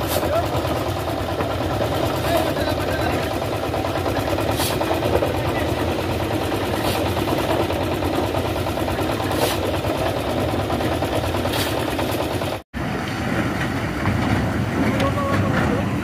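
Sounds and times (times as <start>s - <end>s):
concrete mixer engine running: 0.0s - 16.0s
heavy truck engines: 0.0s - 16.0s.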